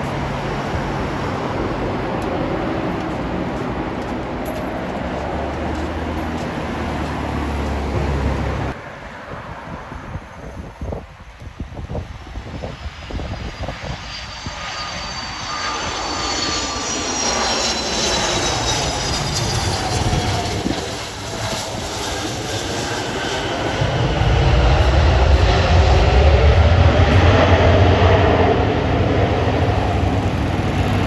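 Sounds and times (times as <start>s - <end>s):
deep engine rumble: 0.0s - 8.8s, 13.7s - 31.0s
aircraft engines whining: 0.0s - 31.0s.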